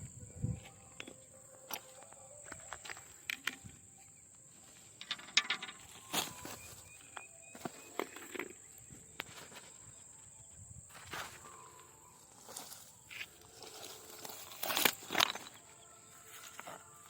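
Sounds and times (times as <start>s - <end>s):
insect high-pitched drone: 0.0s - 17.0s.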